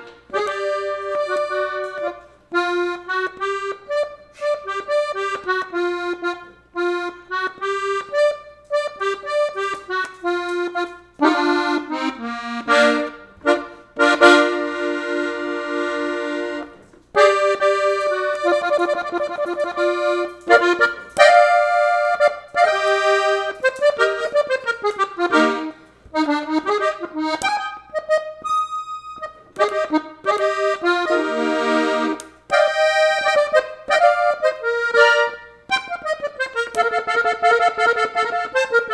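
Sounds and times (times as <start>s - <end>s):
button accordion melody: 0.0s - 38.9s.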